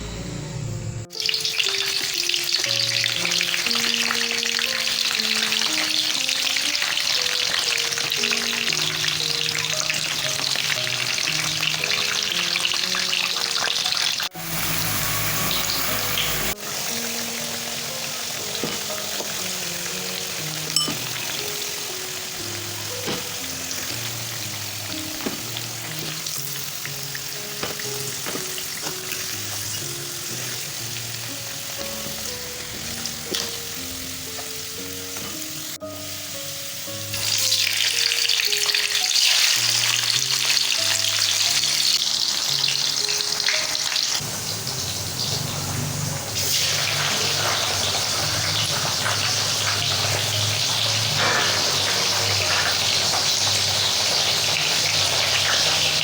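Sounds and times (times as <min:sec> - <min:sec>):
food sizzling in a pan: 0:01.1 - 0:56.0.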